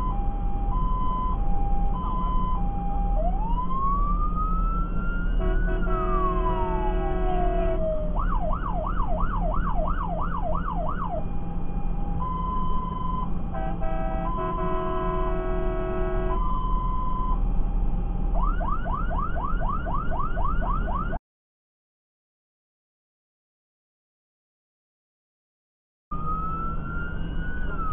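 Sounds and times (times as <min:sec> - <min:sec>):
engine and road noise: 0:00.0 - 0:21.2, 0:26.1 - 0:27.9
fire engine siren: 0:00.0 - 0:21.2, 0:26.1 - 0:27.9.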